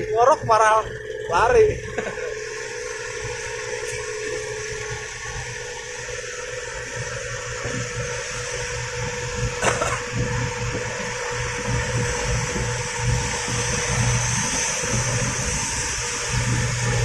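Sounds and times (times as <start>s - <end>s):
bus exhaust growl: 0.0s - 17.0s
engine hum: 0.0s - 17.0s.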